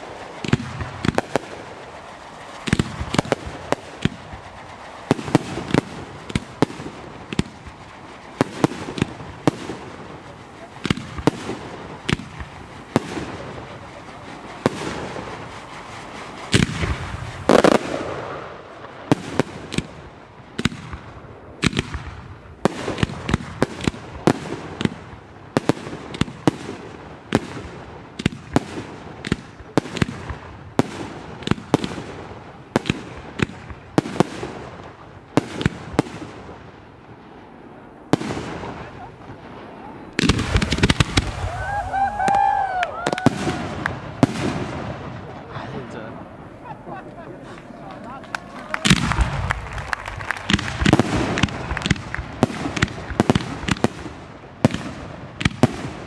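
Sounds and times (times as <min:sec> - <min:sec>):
firework shells bursting: 0:00.0 - 0:37.0, 0:38.1 - 0:45.5, 0:46.2 - 0:56.0.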